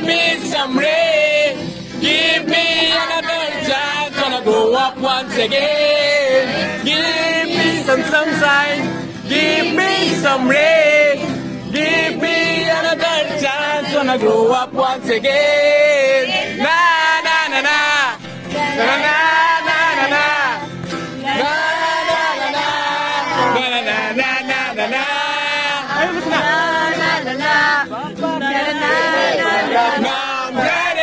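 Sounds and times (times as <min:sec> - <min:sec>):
man singing: 0:00.0 - 0:20.6, 0:21.3 - 0:31.0.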